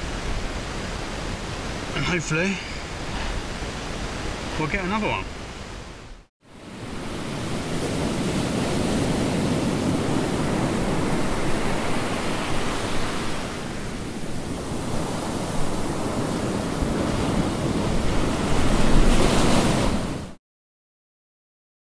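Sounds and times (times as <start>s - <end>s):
sea waves breaking: 0.0s - 20.4s.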